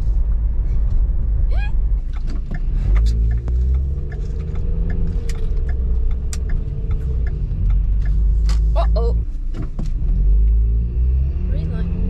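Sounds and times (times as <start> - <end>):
road noise rumble in car: 0.0 - 12.0.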